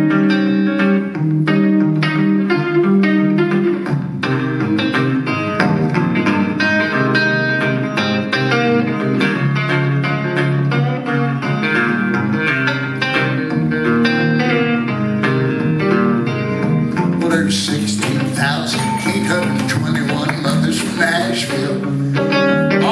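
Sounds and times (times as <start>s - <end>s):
electric guitar lead lines and chords: 0.0s - 22.9s.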